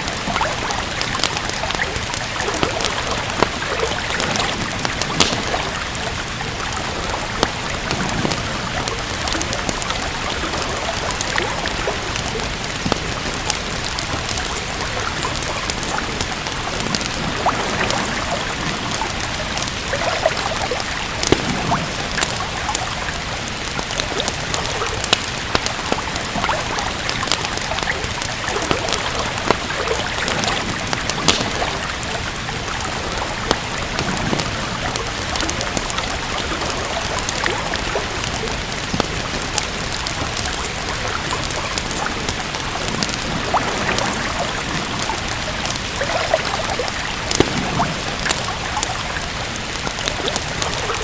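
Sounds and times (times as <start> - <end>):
steady rain hiss: 0.0 - 51.0
wood fire crackling: 0.0 - 51.0.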